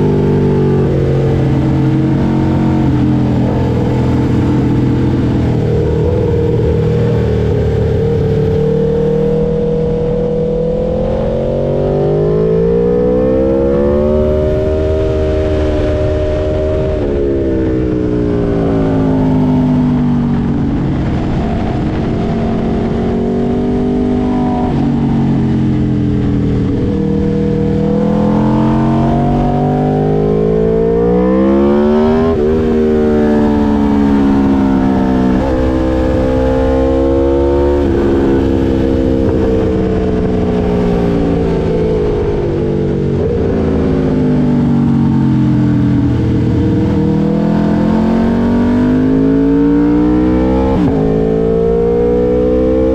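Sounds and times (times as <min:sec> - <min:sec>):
motorcycle engine revving and shifting: 0:00.0 - 0:52.9.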